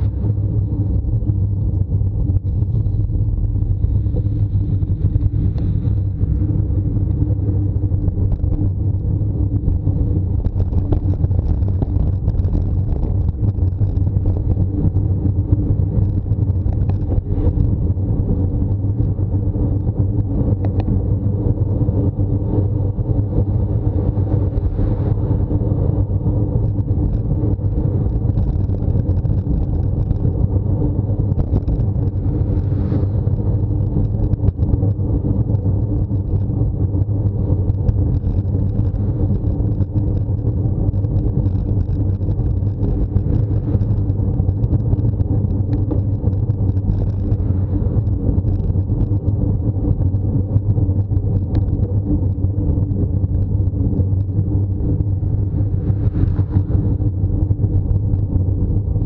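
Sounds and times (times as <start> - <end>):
wind and road noise rumble: 0.0 - 59.0.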